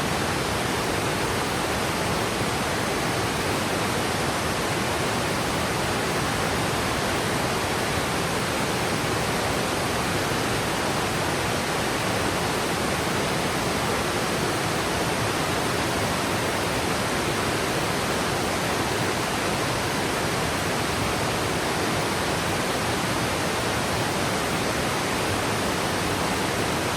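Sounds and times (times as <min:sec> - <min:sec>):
waterfall roaring: 0:00.0 - 0:26.9.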